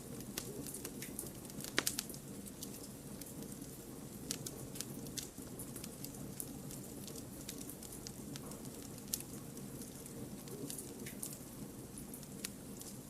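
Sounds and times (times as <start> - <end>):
firewood crackling and popping: 0.0 - 13.0
low rush of flames: 0.0 - 13.0.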